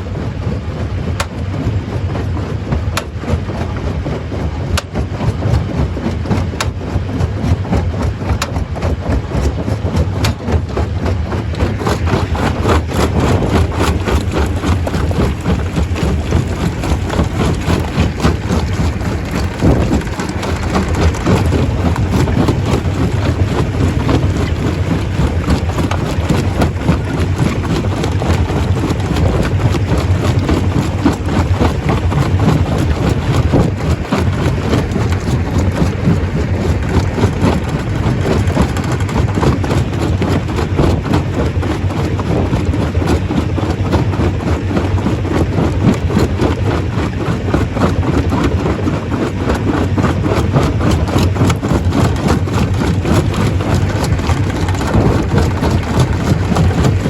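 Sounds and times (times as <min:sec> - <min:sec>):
machine rumble: 0:00.0 - 0:57.0.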